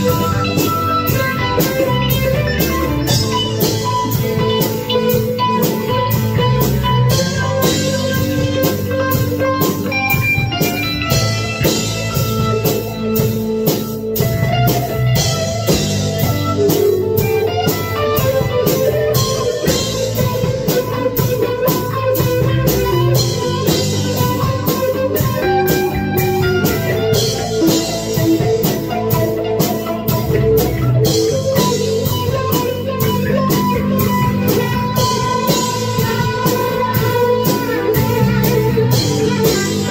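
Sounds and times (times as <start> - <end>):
drums keeping a beat: 0.0 - 39.9
electric guitar rock jam: 0.0 - 39.9.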